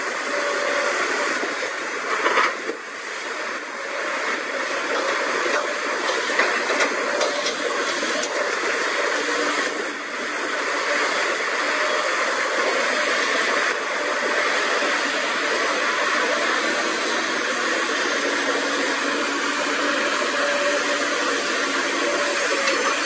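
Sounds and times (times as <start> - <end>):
excavator engine and hydraulics: 0.0 - 23.0.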